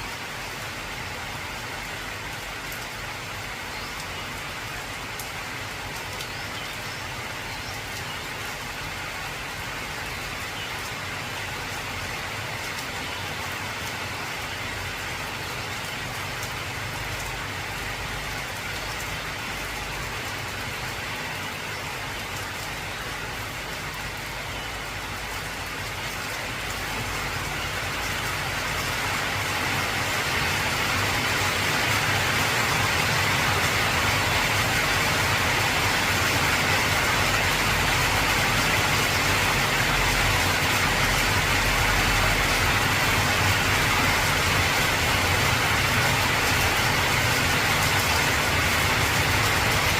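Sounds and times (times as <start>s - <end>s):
heavy rain on a tin roof: 0.0s - 49.9s.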